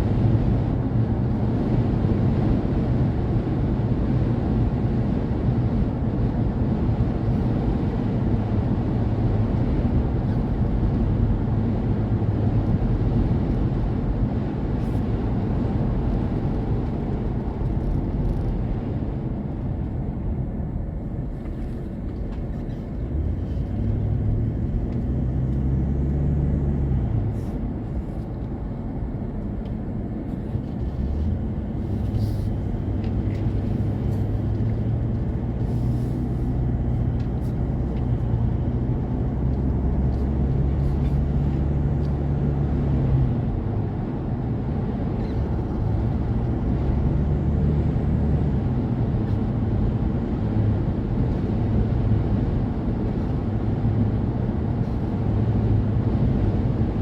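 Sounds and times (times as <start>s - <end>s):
car road and wind drone: 0.0s - 57.0s.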